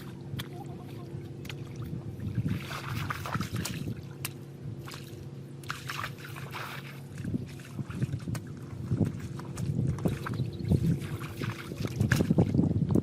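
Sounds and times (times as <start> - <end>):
low motor hum: 0.0 - 13.0
water sloshing and splashing: 0.0 - 13.0.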